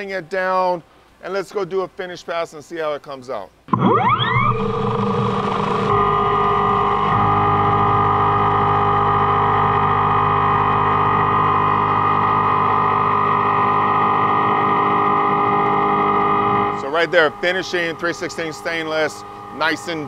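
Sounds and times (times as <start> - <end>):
machine cutting steel whine: 3.7 - 20.0.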